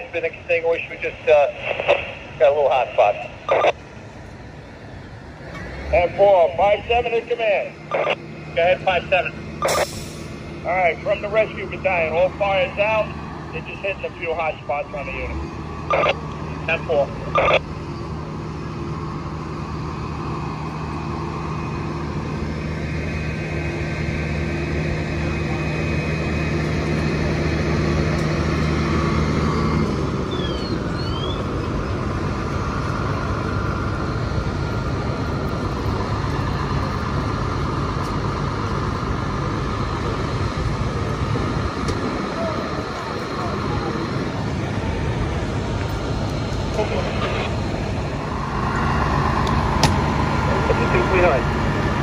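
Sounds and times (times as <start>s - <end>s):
diesel engine idling: 0.0s - 52.0s
street traffic noise: 0.0s - 52.0s.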